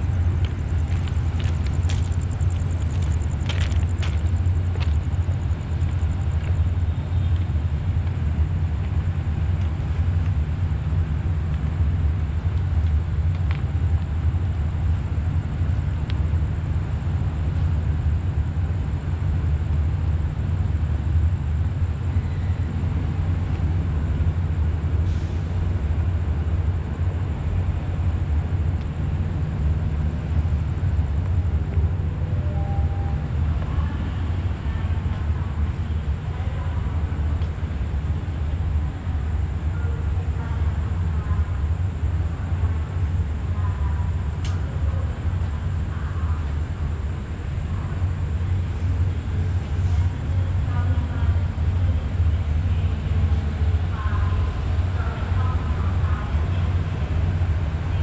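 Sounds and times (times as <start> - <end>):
low engine rumble: 0.0 - 58.0.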